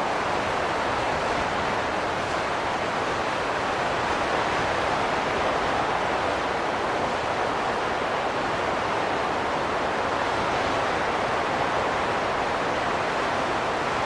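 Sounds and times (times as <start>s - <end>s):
wind blowing steadily: 0.0s - 14.0s.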